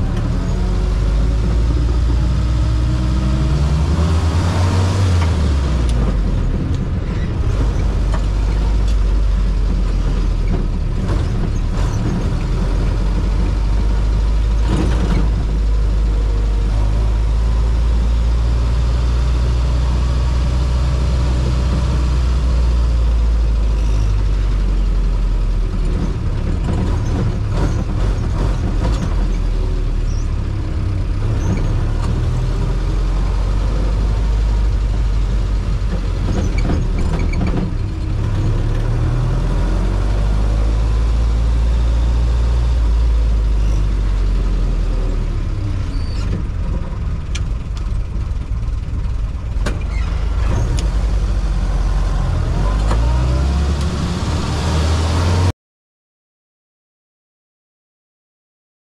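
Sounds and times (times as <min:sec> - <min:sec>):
engine running with rising revs: 0:00.0 - 0:55.5.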